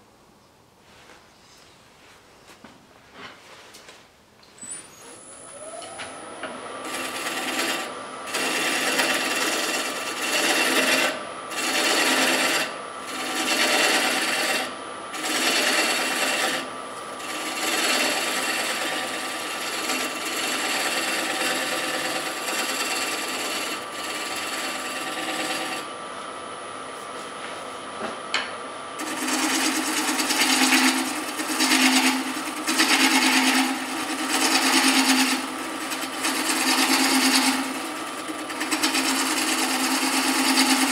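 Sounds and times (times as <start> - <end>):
lathe whine: 4.6 - 40.9
turning tool cutting wood: 5.0 - 26.0, 29.0 - 40.9.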